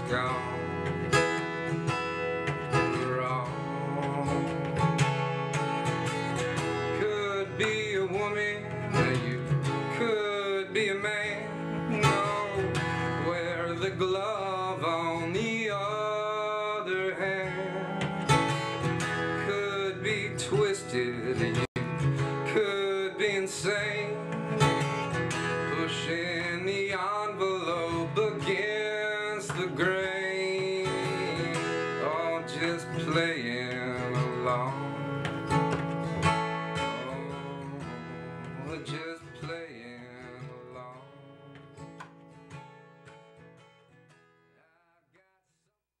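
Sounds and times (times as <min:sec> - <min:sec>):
acoustic guitar strummed and picked: 0:00.0 - 0:44.8.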